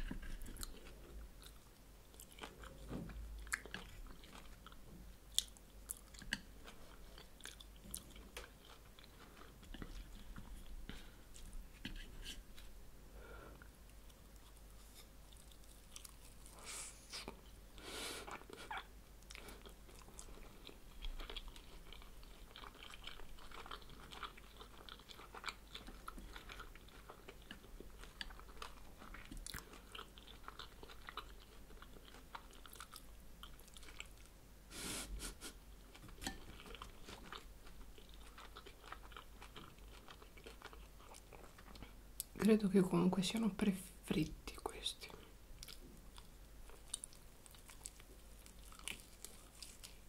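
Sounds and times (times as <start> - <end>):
close chewing with crunches: 0.0 - 12.7, 13.9 - 17.6, 18.2 - 34.4, 35.8 - 42.4, 45.1 - 50.0.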